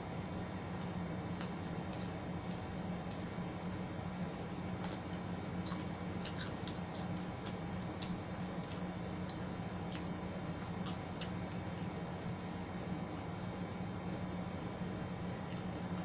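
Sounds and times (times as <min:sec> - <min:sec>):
steady low hum: 0:00.0 - 0:16.0
chewing and biting: 0:00.4 - 0:14.3, 0:15.3 - 0:16.0.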